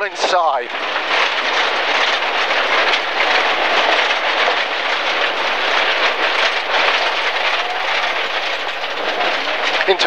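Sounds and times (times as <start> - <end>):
stones pattering against underbody: 0.0 - 10.0
tyres rushing on loose gravel: 0.0 - 10.0.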